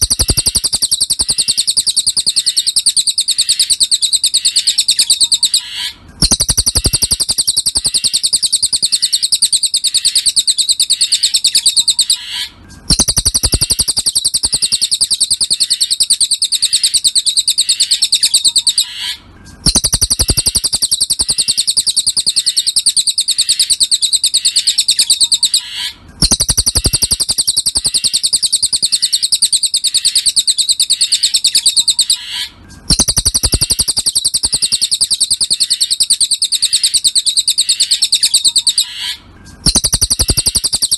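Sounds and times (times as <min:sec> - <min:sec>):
songbird rapid high chirps: 0:00.0 - 0:40.9.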